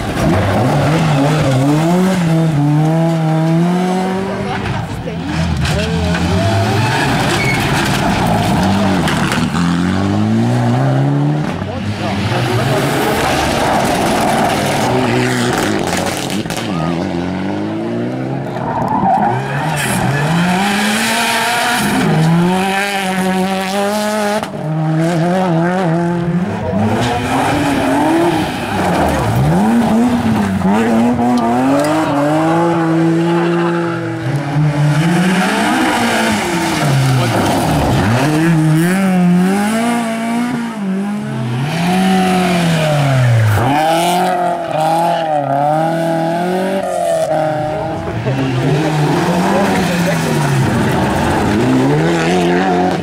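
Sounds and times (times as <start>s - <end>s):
car engine revving: 0.0s - 53.0s
rally car engine passing: 0.0s - 53.0s.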